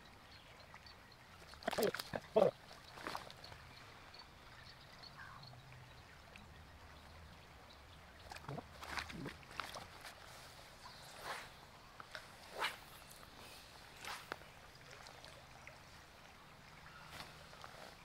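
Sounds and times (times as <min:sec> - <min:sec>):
shallow stream running: 0:00.0 - 0:18.0
water splashes and swishes: 0:00.0 - 0:18.0.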